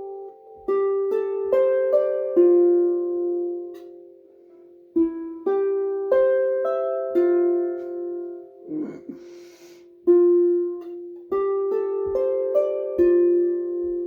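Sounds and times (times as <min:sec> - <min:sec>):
harp plucked notes: 0:00.0 - 0:14.0.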